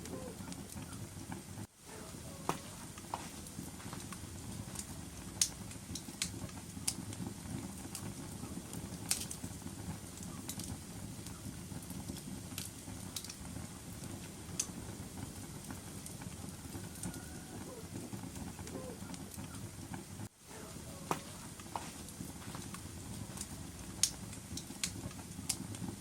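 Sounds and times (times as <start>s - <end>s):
fire flames rumbling: 0.0s - 26.0s
fire popping and crackling: 0.0s - 26.0s.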